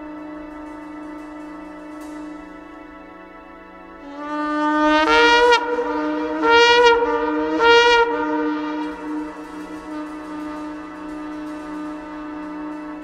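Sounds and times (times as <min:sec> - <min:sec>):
low background music drone: 0:00.0 - 0:13.0
shofar blowing: 0:00.0 - 0:13.0.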